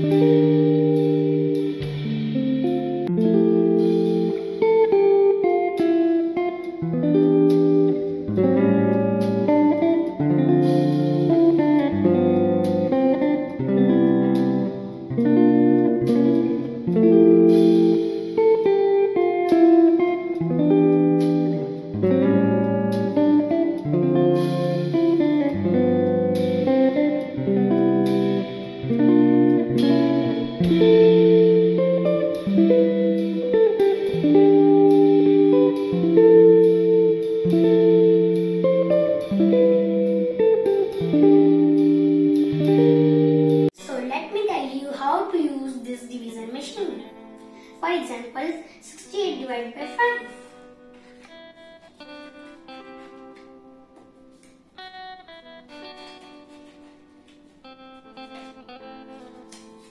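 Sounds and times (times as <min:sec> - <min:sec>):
plucked guitar chords: 0:00.0 - 0:44.6, 0:46.7 - 0:59.9.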